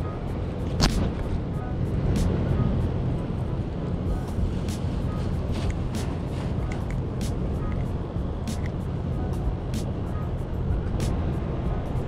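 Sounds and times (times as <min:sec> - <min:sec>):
instrumental music: 0:00.0 - 0:12.0
wind buffeting microphone: 0:00.0 - 0:12.0.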